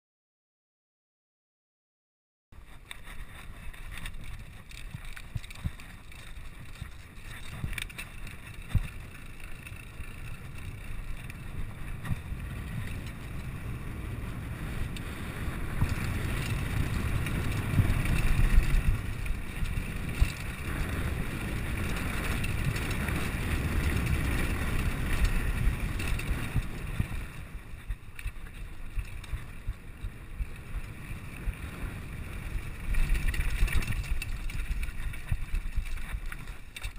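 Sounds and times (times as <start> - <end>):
bike rattling over bumps: 2.6 - 36.9
tyres rumbling over dirt: 2.6 - 36.9
wind buffeting microphone: 2.6 - 36.9.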